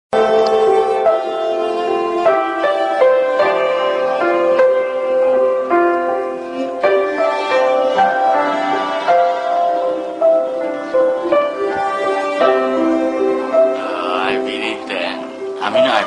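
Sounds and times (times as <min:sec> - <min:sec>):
piano accompaniment: 0:00.1 - 0:16.0
violin melody: 0:00.2 - 0:16.0.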